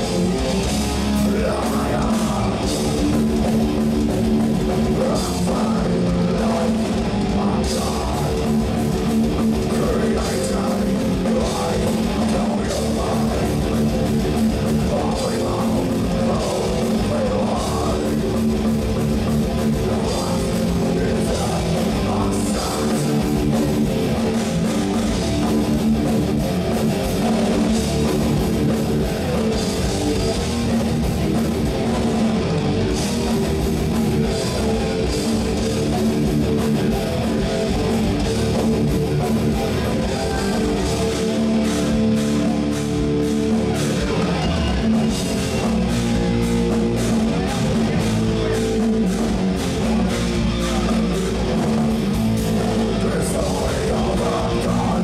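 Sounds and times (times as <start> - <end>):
bass guitar low chords: 0.0 - 55.0
distorted electric guitars: 0.0 - 55.0
drum kit: 0.0 - 55.0.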